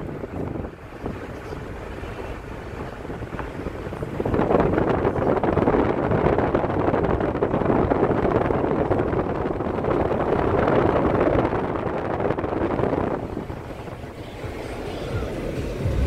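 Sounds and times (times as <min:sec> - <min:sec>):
road noise: 0:00.0 - 0:16.0
wind buffeting microphone: 0:00.0 - 0:16.0
wind rushing at car window: 0:00.0 - 0:16.0.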